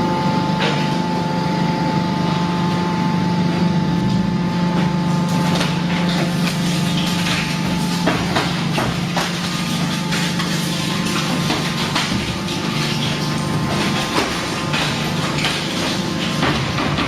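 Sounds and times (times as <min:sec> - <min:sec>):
high machine whine: 0:00.0 - 0:17.0
hydraulic power unit hum: 0:00.0 - 0:17.0.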